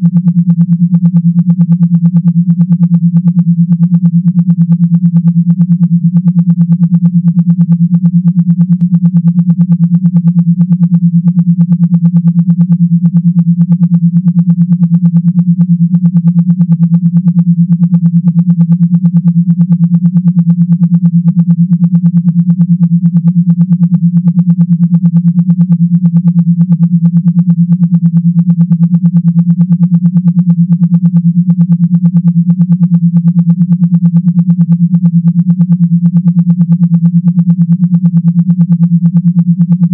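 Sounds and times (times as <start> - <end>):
pulsing low electronic buzz: 0.0 - 39.9.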